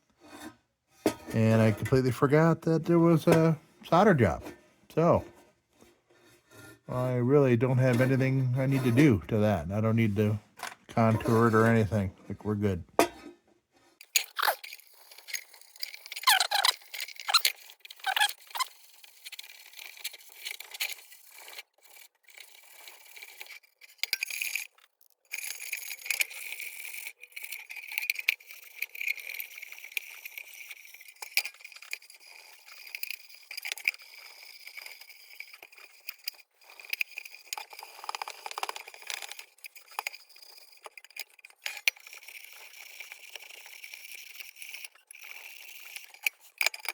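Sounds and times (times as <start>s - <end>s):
scraping and clinking on tin: 0.3s - 4.6s, 6.2s - 13.4s, 14.0s - 46.9s.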